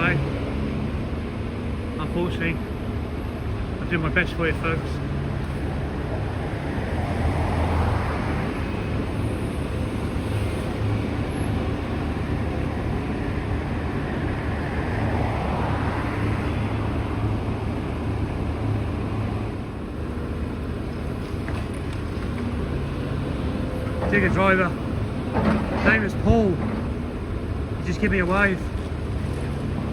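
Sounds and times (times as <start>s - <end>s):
excavator diesel engine under load: 0.0s - 29.9s.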